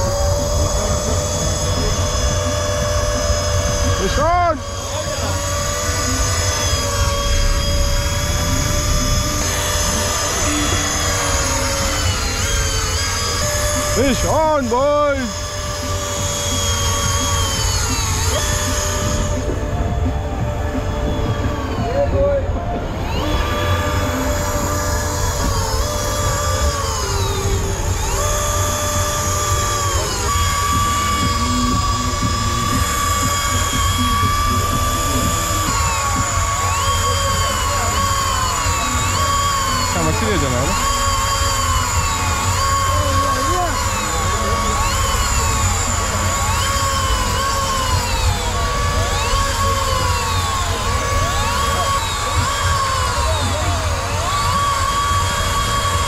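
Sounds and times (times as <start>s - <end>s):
low machine rumble: 0.0s - 56.0s
steady whining tones: 0.0s - 56.0s.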